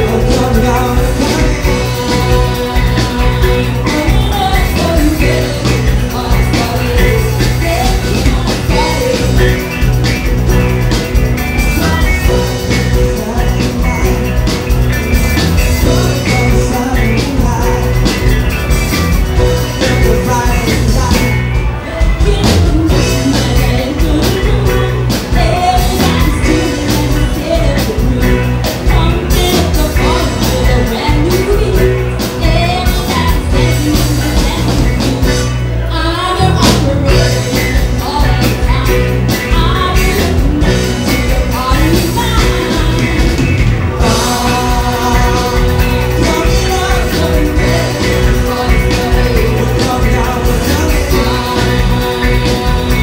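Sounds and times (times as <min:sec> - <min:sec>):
singer's vocals: 0:00.0 - 0:10.0, 0:11.6 - 0:14.8, 0:15.4 - 0:53.0
live rock band playing: 0:00.0 - 0:53.0.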